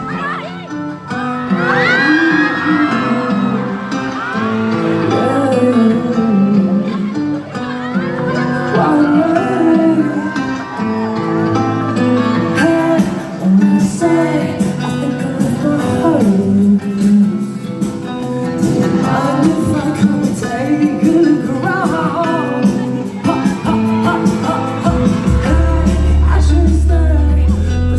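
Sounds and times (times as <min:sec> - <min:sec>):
guitar accompaniment: 0:00.0 - 0:27.9
man singing: 0:01.0 - 0:27.9.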